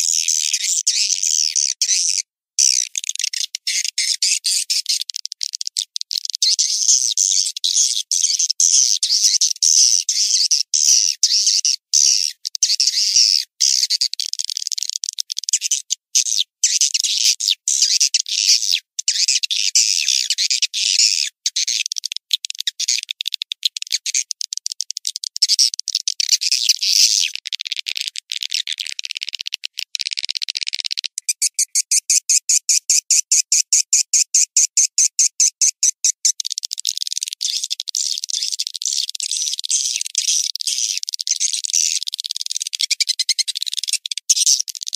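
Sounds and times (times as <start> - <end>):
high bird chirping and twittering: 0.0 - 14.3, 15.5 - 24.3, 25.0 - 27.4, 31.0 - 33.4, 34.6 - 44.9.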